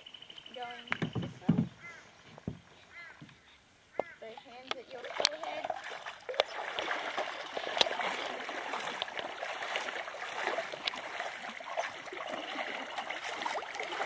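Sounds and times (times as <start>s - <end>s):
paddle swishing in water: 1.0s - 14.0s.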